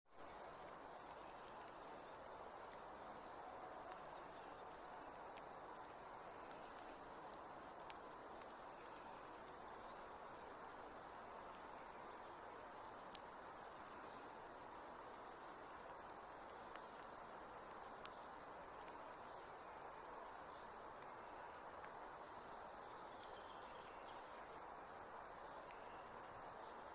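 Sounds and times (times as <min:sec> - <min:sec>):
steady low hiss: 0:00.1 - 0:26.9.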